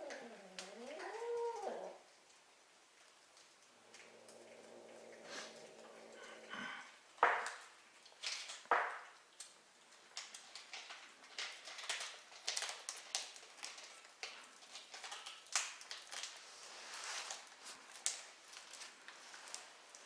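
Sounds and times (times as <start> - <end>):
kitten chewing and lapping: 0.1 - 20.0.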